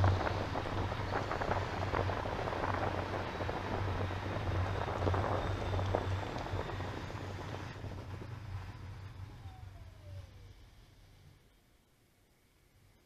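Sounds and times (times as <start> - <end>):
wind rushing over microphone: 0.0 - 10.5
vehicle road hum: 0.0 - 11.7.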